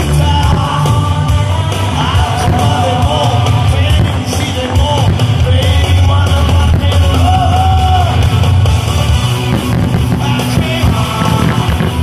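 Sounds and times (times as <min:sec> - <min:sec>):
loud rock song with singing: 0:00.0 - 0:12.0.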